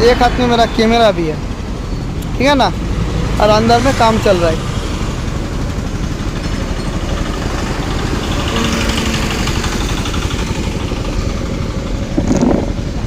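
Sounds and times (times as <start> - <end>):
loud vehicle passing: 0.0 - 13.0
road traffic passing: 0.0 - 13.0.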